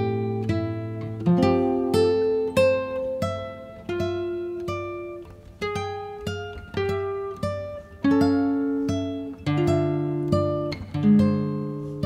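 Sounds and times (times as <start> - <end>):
plucked acoustic guitar melody: 0.0 - 12.0.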